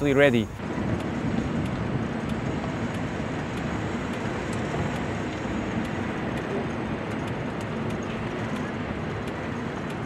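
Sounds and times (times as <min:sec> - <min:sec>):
golf buggy rumble and tyre noise: 0:00.0 - 0:10.0
faint ticks: 0:00.9 - 0:10.0.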